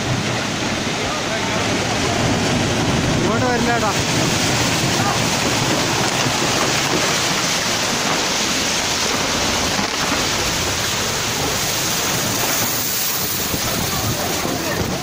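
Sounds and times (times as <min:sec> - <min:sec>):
roar of flood torrent: 0:00.0 - 0:15.0.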